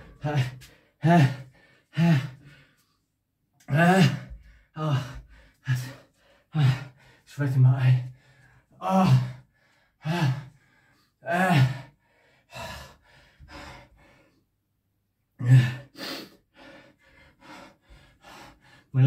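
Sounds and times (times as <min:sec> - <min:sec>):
man panting hard: 0:00.0 - 0:02.9, 0:03.8 - 0:14.4, 0:15.4 - 0:19.0.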